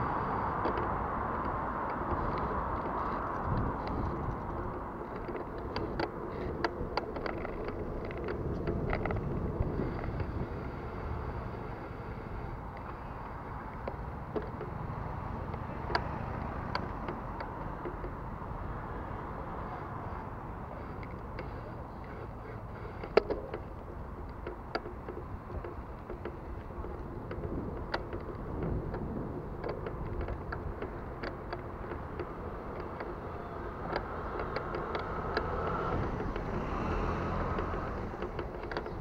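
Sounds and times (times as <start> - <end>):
bicycle clicking and rattling: 0.0 - 39.0
bicycle tyres rumbling: 0.0 - 39.0
traffic: 0.0 - 39.0
wind: 0.0 - 39.0.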